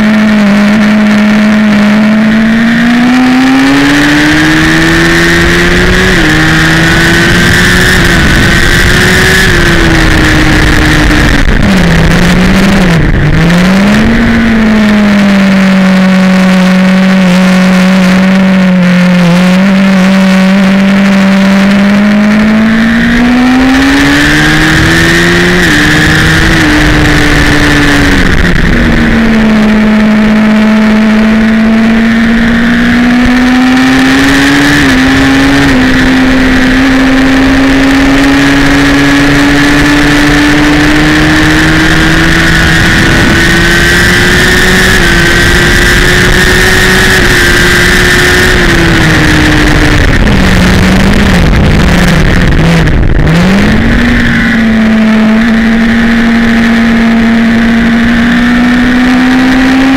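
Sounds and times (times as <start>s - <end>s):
motorcycle engine revving: 0.0s - 59.9s
wind rush: 1.6s - 59.9s.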